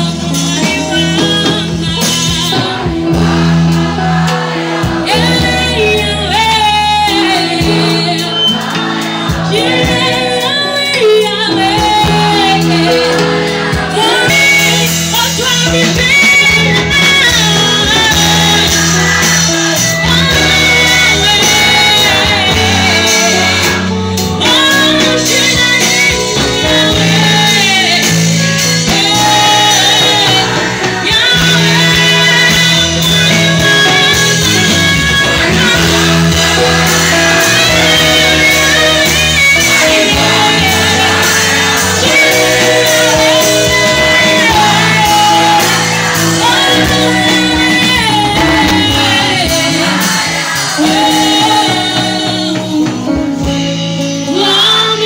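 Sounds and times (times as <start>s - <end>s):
live band playing gospel music: 0.0s - 55.0s
woman singing into a microphone: 0.0s - 55.0s.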